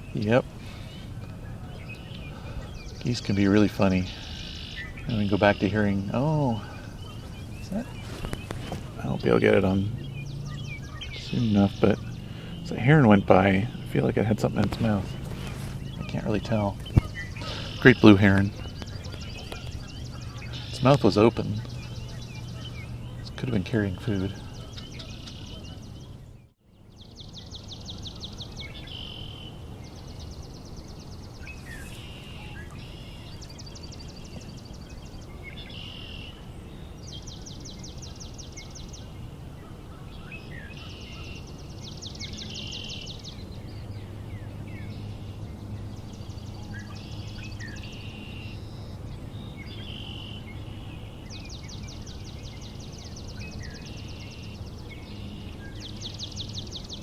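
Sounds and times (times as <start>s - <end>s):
low background rumble: 0.0s - 57.0s
songbirds singing: 0.0s - 57.0s.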